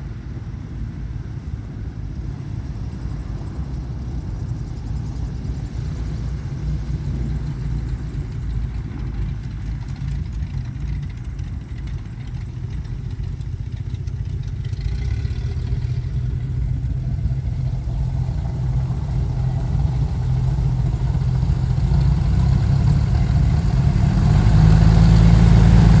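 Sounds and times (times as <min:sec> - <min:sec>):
twin piston engines running: 0:00.0 - 0:26.0.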